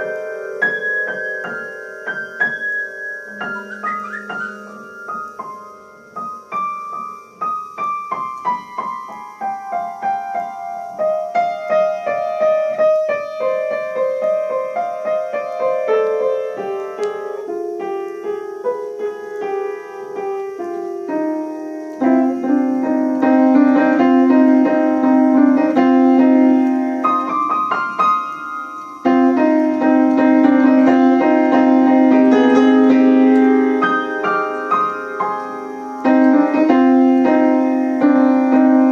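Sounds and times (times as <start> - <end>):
slow piano music: 0.0 - 38.9.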